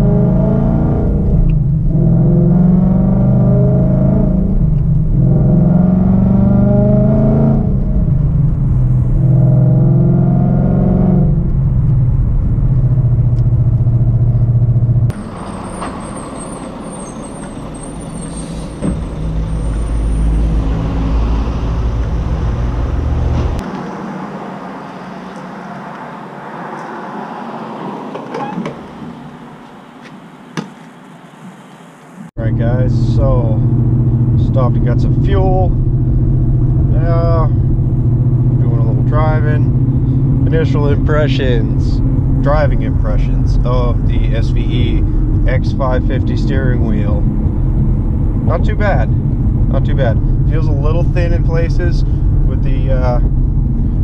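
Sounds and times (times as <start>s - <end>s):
low engine rumble: 0.0s - 26.9s, 28.4s - 54.0s
car engine accelerating hard: 0.0s - 28.0s, 32.4s - 54.0s.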